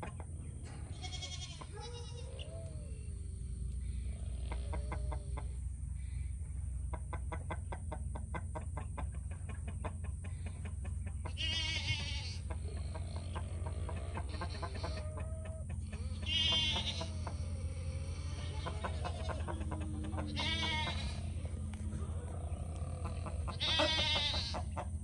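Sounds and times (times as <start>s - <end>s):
chickens clucking: 0.0s - 25.0s
hens calling: 0.0s - 25.0s.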